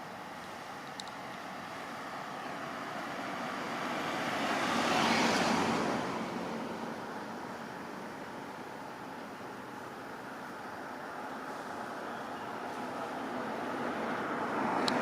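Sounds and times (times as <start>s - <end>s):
road vehicle passing by: 0.0s - 15.0s.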